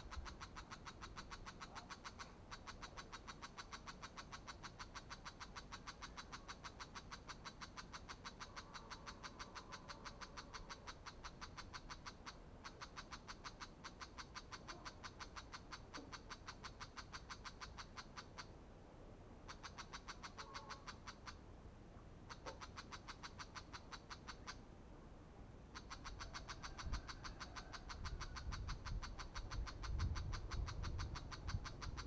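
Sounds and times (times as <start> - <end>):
bird harsh rattling chatter: 0.0 - 18.5, 19.5 - 21.4, 22.3 - 24.6, 25.7 - 32.0.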